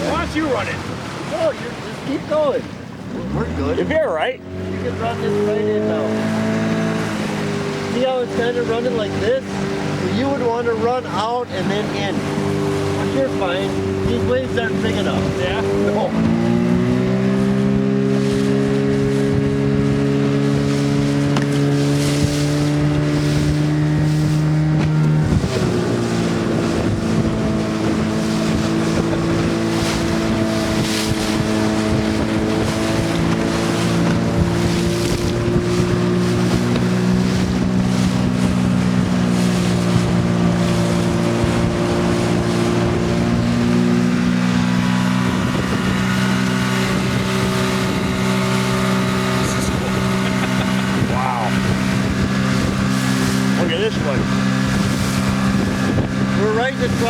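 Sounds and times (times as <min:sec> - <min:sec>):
motorboat engine running: 0:00.0 - 0:57.0
wind and water rushing: 0:00.0 - 0:57.0.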